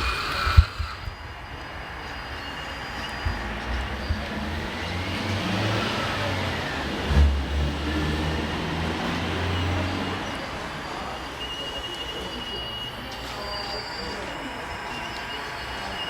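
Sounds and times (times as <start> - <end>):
electric motors and hydraulics whining: 0.0 - 16.0.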